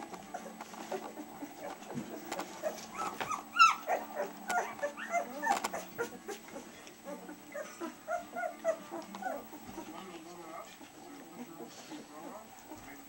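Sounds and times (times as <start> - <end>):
puppies whimpering and squeaking: 0.2 - 13.0.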